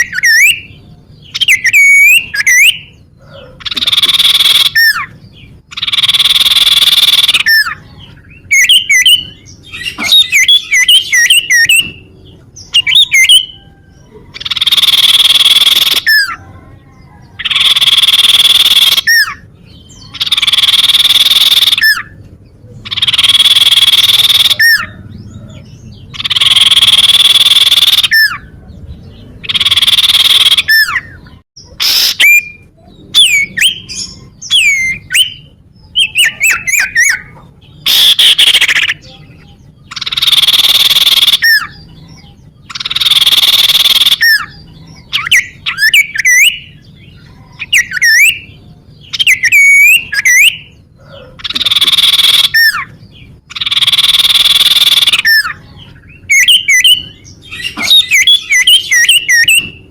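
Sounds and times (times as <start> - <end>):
bird harsh rasping calls: 0.0 - 59.9.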